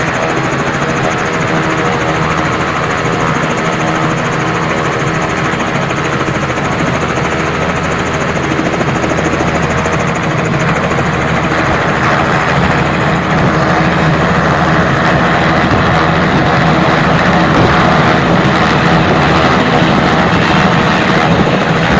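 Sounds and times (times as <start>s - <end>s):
helicopter rotor and engine: 0.0s - 21.9s.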